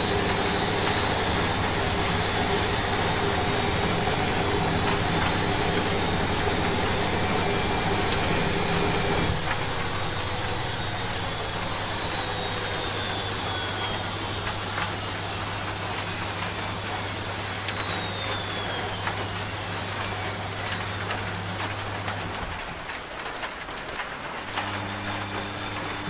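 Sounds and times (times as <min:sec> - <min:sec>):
rain pattering: 0:00.0 - 0:26.0
washing machine spin whine: 0:00.0 - 0:26.0.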